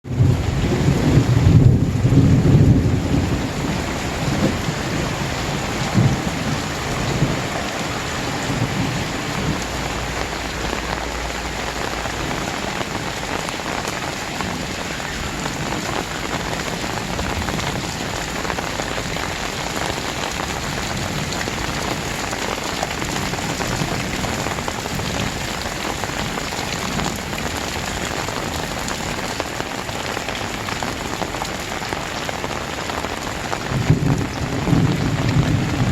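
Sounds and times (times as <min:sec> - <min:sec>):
heavy rain pouring: 0:00.0 - 0:35.9
thunder rumble: 0:00.1 - 0:28.9, 0:33.3 - 0:35.9.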